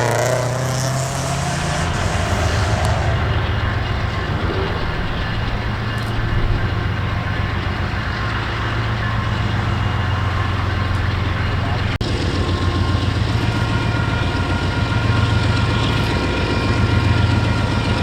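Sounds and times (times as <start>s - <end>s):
low engine hum: 0.0s - 18.0s
train wheels rumbling on rail: 0.0s - 18.0s.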